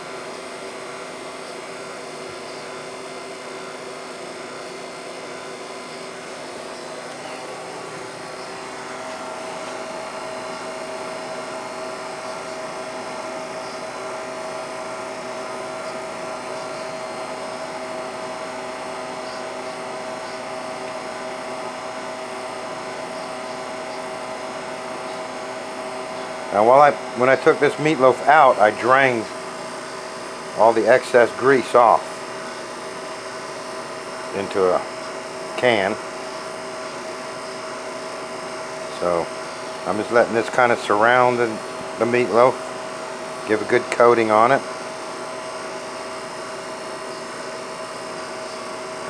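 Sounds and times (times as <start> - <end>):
motor hum and whir: 0.0 - 49.0.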